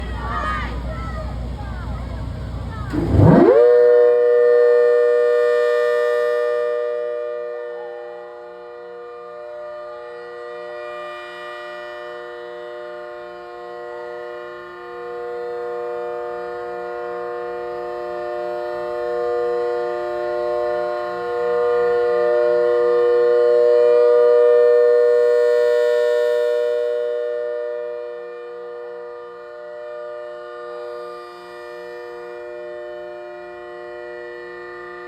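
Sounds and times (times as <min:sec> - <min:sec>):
rotating siren chord: 0:00.0 - 0:35.0.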